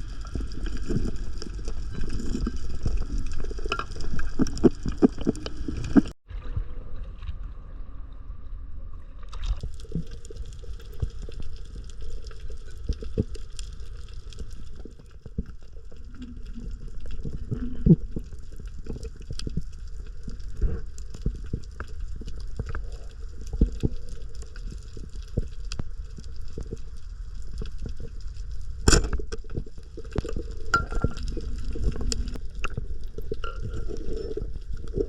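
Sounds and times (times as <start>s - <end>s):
small irregular clicks and crackles: 0.0s - 6.2s, 9.2s - 35.0s
underwater rumble of moving water: 0.0s - 35.0s.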